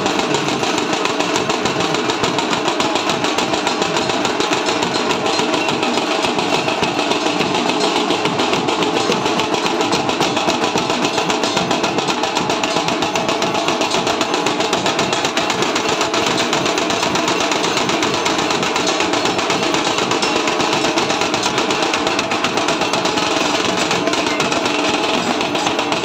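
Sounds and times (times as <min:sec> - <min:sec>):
bells and gongs beaten rapidly: 0:00.0 - 0:26.0.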